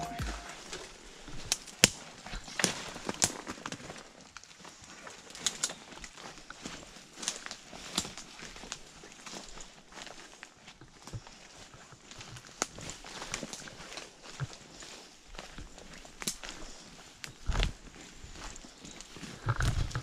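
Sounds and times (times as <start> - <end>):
footsteps on dry leaves: 0.0 - 1.4, 2.0 - 19.4.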